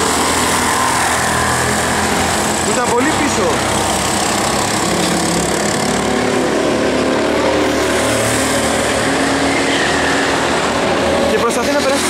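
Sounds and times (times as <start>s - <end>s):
go-kart engines racing: 0.0s - 12.0s.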